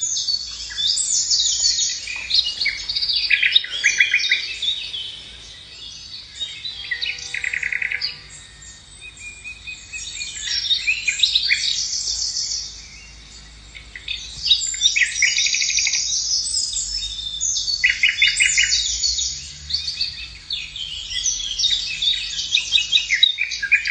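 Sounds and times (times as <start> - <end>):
small birds singing and chirping: 0.0 - 23.9.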